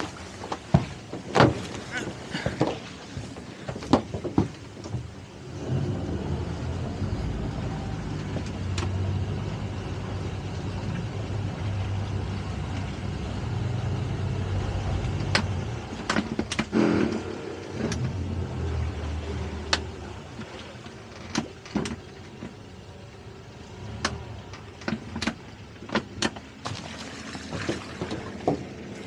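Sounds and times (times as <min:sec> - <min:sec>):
boat engine humming: 0:00.0 - 0:29.0.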